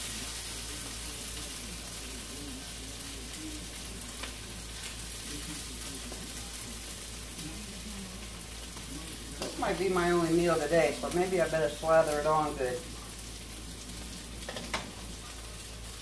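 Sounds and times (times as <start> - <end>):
cabbage sizzling in a pan: 0.0 - 16.0.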